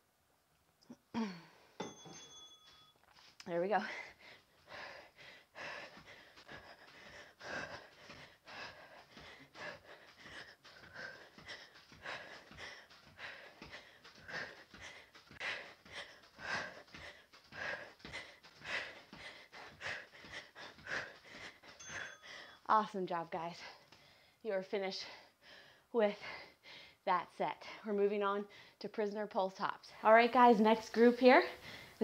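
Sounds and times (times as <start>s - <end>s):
woman breathing heavily: 0.9s - 1.9s, 3.0s - 22.7s, 23.3s - 28.8s, 31.4s - 32.0s.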